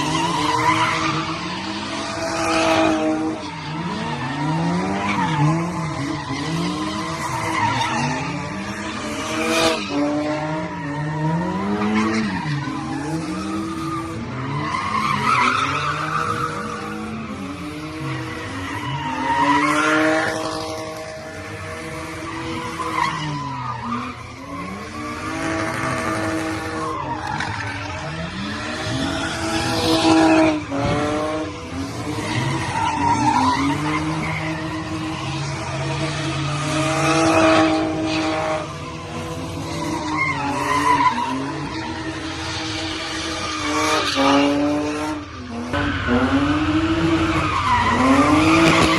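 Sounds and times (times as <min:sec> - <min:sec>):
car engine revving: 0:00.0 - 0:48.9
tires screeching: 0:00.0 - 0:48.9.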